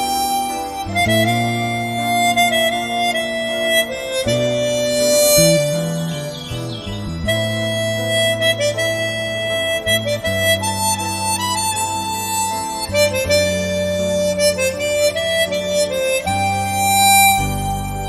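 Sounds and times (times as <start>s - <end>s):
harmonica playing slow melody: 0.0s - 18.0s
low sustained accompaniment: 0.0s - 18.0s.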